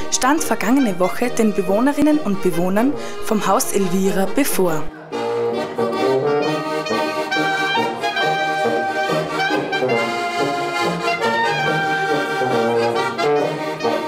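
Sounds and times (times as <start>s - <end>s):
button accordion: 0.0s - 14.0s
clarinet: 0.0s - 14.0s
tuba bass line: 0.0s - 14.0s.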